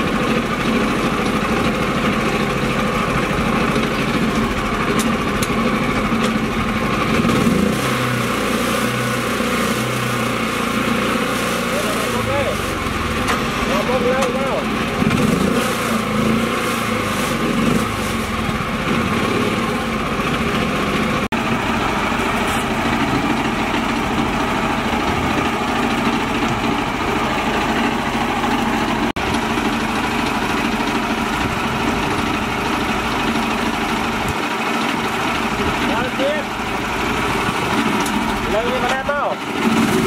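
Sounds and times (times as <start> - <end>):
small tractor engine running: 0.0 - 40.0.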